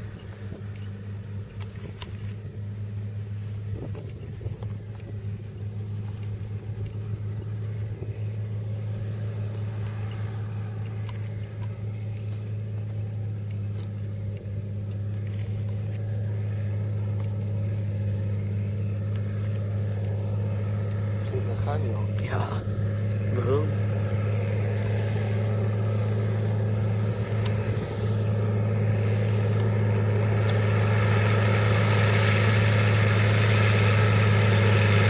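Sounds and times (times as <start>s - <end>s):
tractor engine running under load: 0.0s - 35.0s.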